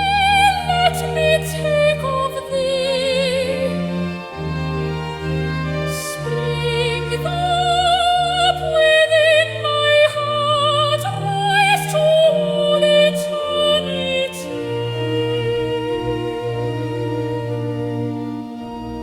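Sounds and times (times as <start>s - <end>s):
slow hymn music: 0.0s - 19.0s.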